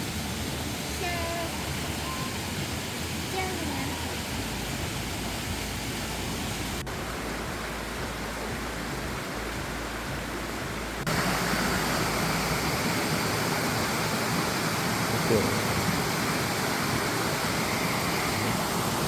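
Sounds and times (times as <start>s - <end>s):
water rushing in rocky stream: 0.0s - 19.0s.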